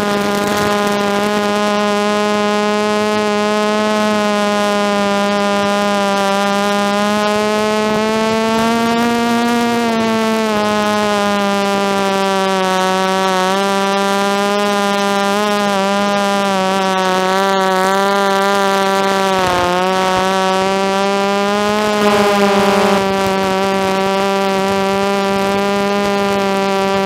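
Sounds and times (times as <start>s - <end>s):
quadcopter motors humming: 0.0s - 27.0s.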